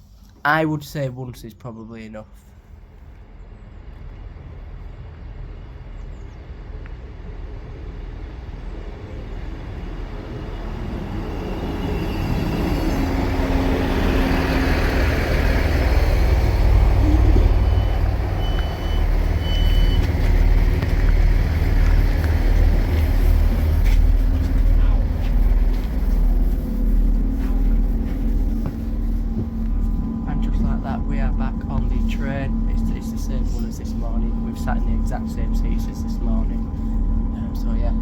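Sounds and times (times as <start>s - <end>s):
train rumble: 2.3s - 38.0s.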